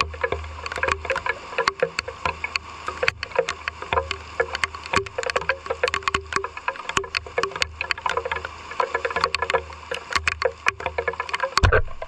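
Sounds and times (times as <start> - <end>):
raindrops tapping on hard surface: 0.0 - 12.0.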